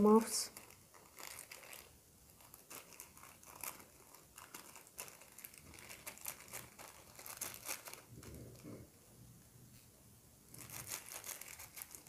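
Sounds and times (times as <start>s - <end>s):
plastic bag crinkling: 0.0s - 8.7s, 10.5s - 12.0s.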